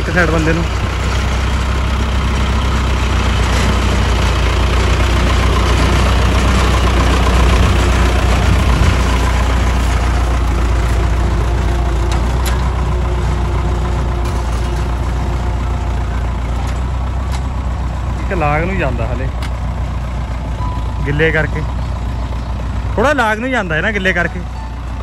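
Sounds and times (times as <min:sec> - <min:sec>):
tractor diesel engine: 0:00.0 - 0:25.0.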